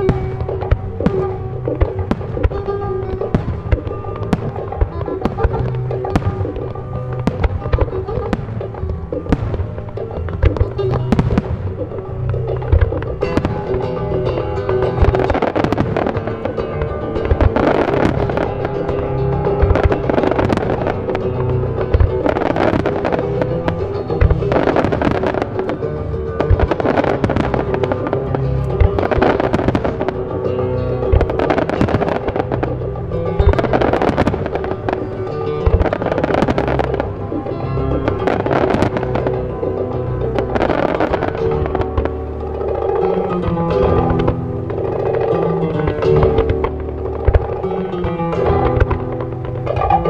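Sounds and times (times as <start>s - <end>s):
firework bangs: 0.0s - 50.0s
music with sustained notes: 0.0s - 50.0s.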